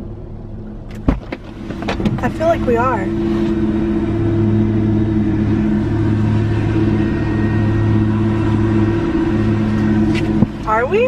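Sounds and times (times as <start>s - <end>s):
car idling from inside cabin: 0.0s - 8.1s, 8.7s - 11.0s.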